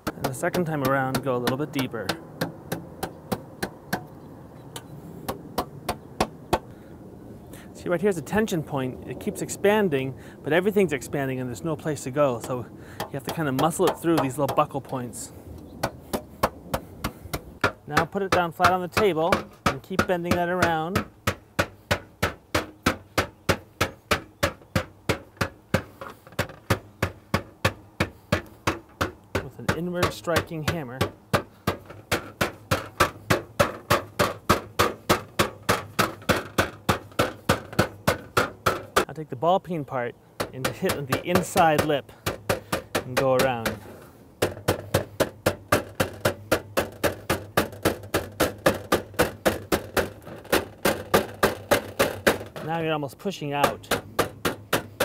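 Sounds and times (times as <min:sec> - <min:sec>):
hammer striking copper sheet: 0:00.0 - 0:04.1, 0:12.4 - 0:39.1, 0:40.4 - 0:53.0, 0:53.6 - 0:55.0.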